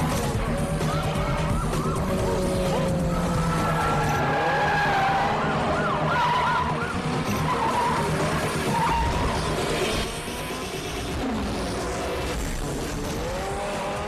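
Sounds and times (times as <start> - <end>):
police sirens wailing: 0.0 - 12.3
car engines running hard: 0.0 - 14.0
tyres skidding: 0.0 - 14.0.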